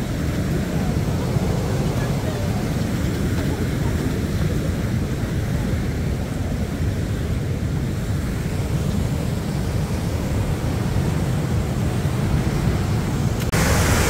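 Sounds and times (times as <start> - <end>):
falling water hissing: 0.0 - 14.0
rushing river water: 0.0 - 14.0.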